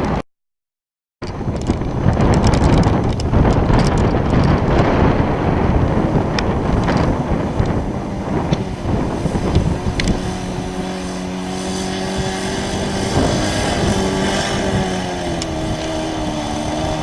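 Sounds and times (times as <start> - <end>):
model airplane engine drone: 1.2 - 17.0
wind buffeting microphone: 1.2 - 17.0.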